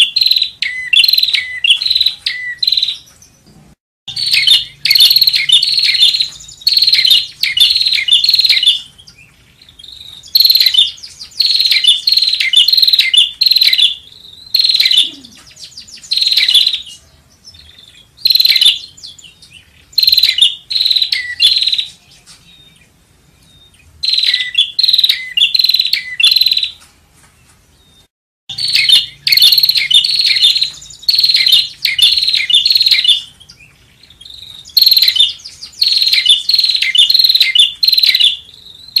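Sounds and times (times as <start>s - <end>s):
bird rapid sharp chirps: 0.0s - 26.8s, 27.9s - 39.0s.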